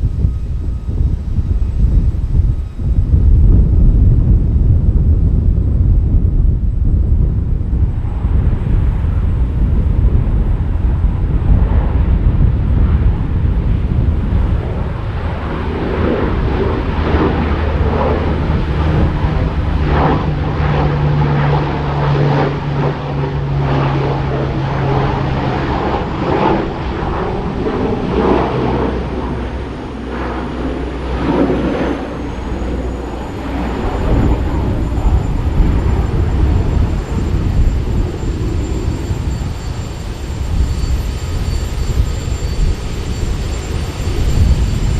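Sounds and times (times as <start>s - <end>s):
aircraft engines rumbling: 0.0s - 44.9s
faint high whine: 0.0s - 44.9s.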